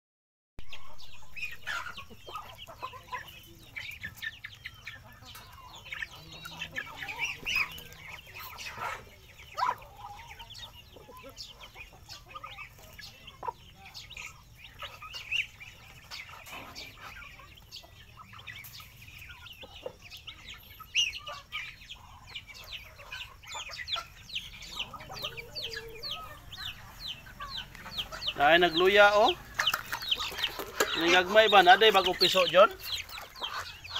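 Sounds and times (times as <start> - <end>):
chickens clucking: 0.6 - 33.9
chicks peeping: 0.6 - 33.9.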